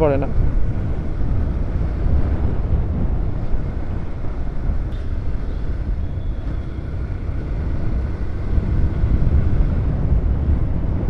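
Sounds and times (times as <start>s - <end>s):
motorcycle engine and road rumble: 0.0s - 11.0s
wind buffeting microphone: 0.0s - 11.0s.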